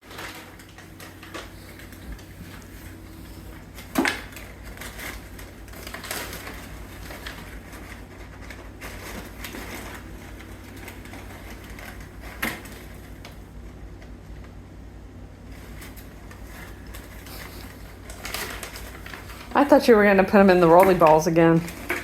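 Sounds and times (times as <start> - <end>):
rustling and scratching in a box: 0.0 - 13.4, 15.4 - 22.0.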